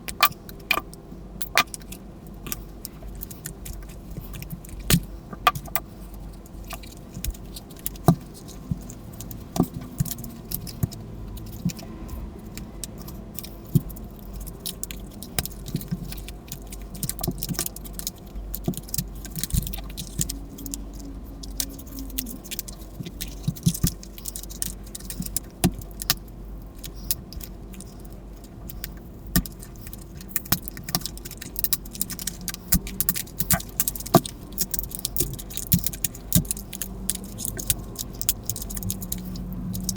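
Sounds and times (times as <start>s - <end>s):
tools and plastic parts clicking: 0.1s - 39.9s.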